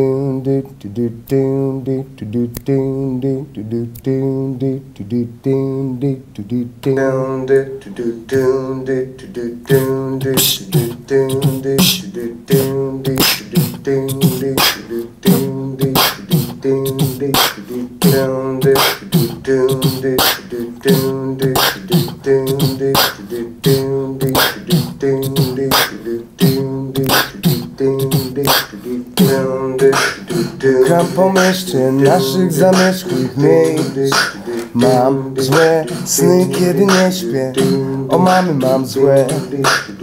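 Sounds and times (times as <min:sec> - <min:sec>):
vocal bass line: 0:00.0 - 0:40.0
beatboxing mouth clicks: 0:00.3 - 0:40.0.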